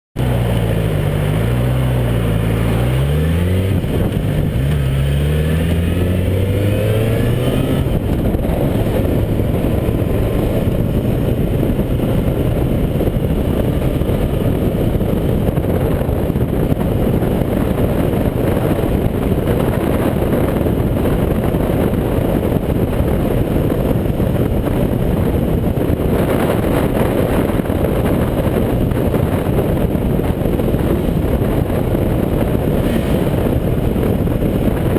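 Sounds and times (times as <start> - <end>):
motorcycle engine accelerating: 0.2 - 34.9
wind rush on microphone: 0.2 - 34.9.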